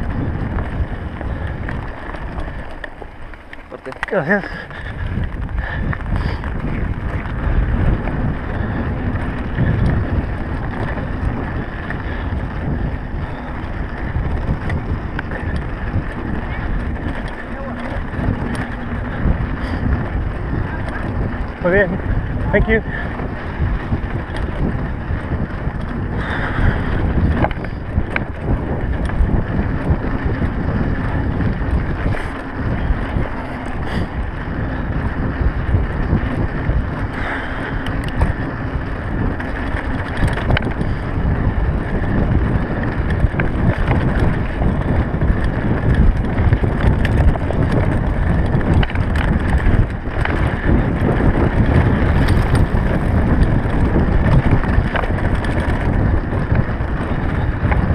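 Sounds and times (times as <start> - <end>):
bike rattling and clicking: 0.0 - 57.9
bike tyres rumbling on gravel: 0.0 - 57.9
wind buffeting microphone: 0.0 - 57.9.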